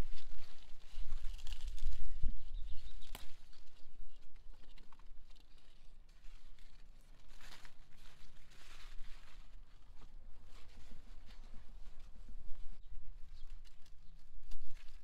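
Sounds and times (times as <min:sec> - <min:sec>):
leaves rustling and crinkling: 0:00.0 - 0:15.0.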